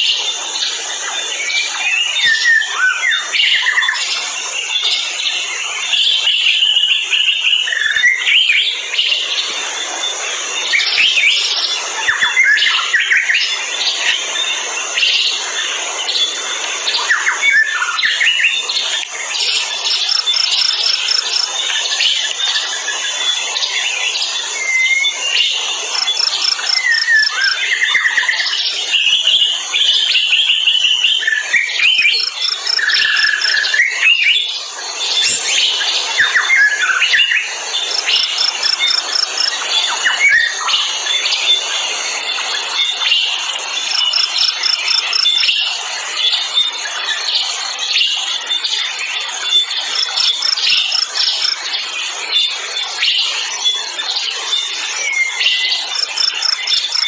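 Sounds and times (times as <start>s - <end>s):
birds chirping and calling: 0.0s - 57.0s
high insect drone: 0.0s - 57.0s.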